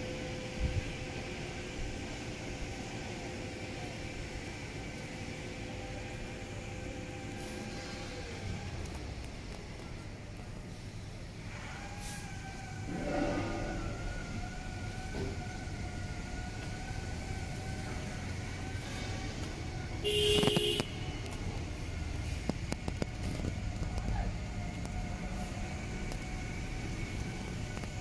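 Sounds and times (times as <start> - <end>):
diesel engine idling with whine: 0.0 - 28.0.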